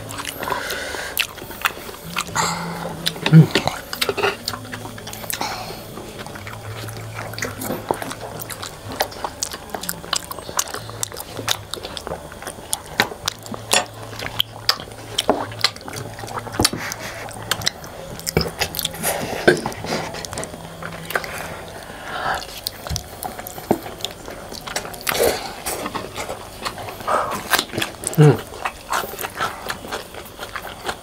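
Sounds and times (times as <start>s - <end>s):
people chewing food: 0.0s - 31.0s.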